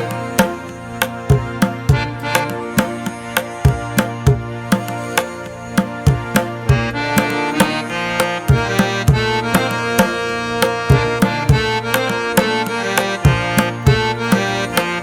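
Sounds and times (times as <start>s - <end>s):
melodic music with drum beat: 0.0s - 15.0s.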